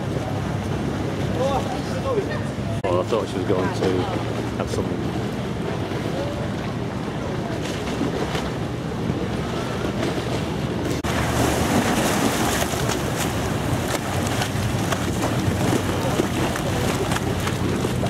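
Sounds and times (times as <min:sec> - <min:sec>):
boat engine humming: 0:00.0 - 0:18.0
water: 0:00.0 - 0:18.0.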